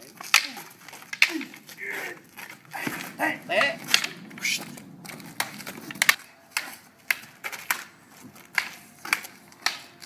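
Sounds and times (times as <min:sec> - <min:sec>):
wooden swords clacking: 0:00.0 - 0:10.0.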